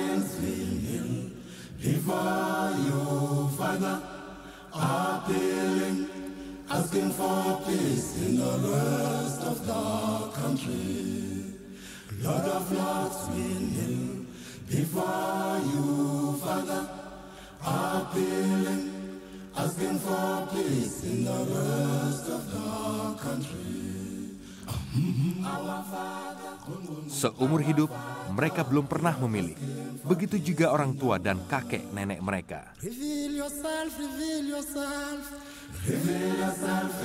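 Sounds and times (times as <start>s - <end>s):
choir singing in harmony: 0.0s - 32.2s, 33.0s - 37.0s.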